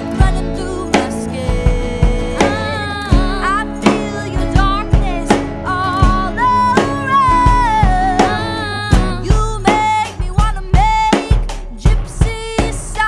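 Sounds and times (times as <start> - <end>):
guitar and bass: 0.0 - 13.0
steady drum beat: 0.0 - 13.0
woman singing: 0.0 - 13.0.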